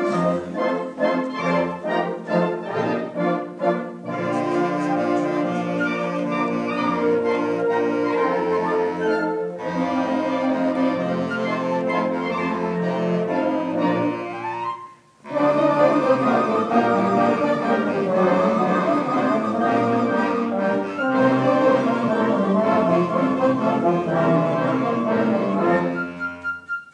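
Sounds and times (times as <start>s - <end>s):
instrumental ensemble music: 0.0s - 26.9s.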